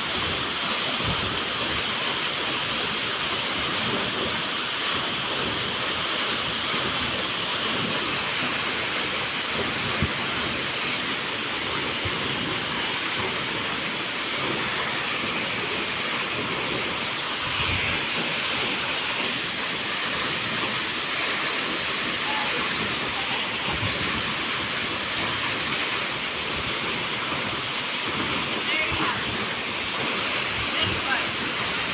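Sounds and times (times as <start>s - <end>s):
waterfall roaring: 0.0s - 31.9s.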